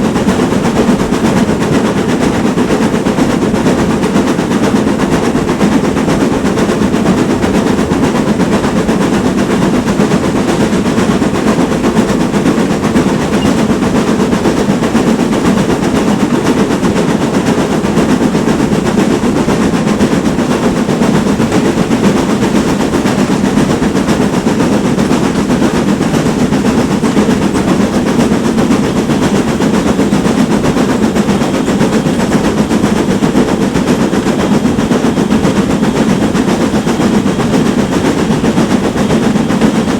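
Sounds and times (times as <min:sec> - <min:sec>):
steam locomotive exhaust beating: 0:00.0 - 0:39.9.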